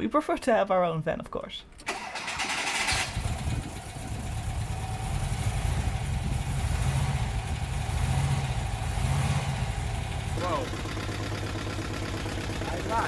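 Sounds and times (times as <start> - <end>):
car engine idling: 1.8 - 13.0.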